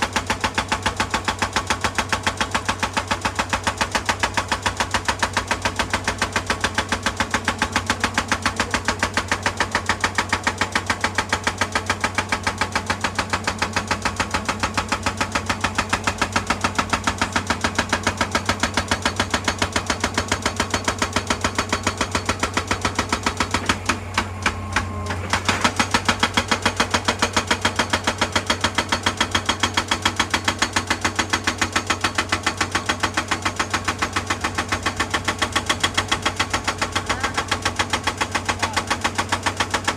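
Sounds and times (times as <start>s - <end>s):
excavator engine hum: 0.0s - 39.9s
hydraulic rock breaker hammering: 0.0s - 39.9s.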